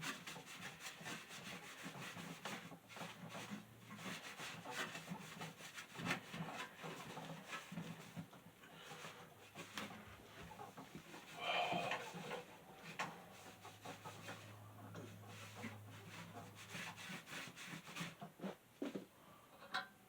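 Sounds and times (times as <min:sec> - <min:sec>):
rubbing: 0:00.0 - 0:18.6.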